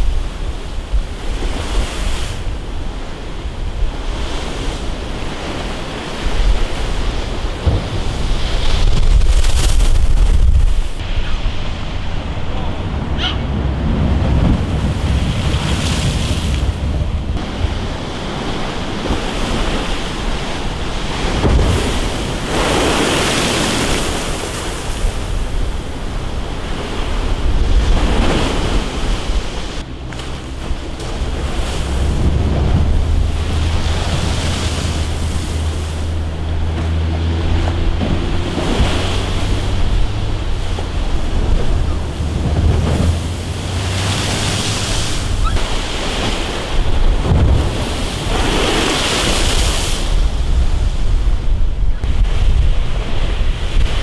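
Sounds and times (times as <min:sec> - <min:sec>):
sea waves breaking: 0:00.0 - 0:54.0
wind buffeting microphone: 0:00.0 - 0:54.0.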